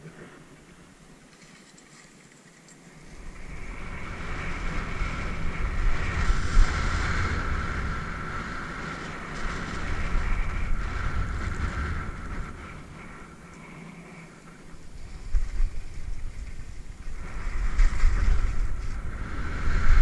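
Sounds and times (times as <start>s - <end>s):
skis scraping over snow: 1.4s - 20.0s
wind rushing over microphone: 2.9s - 20.0s.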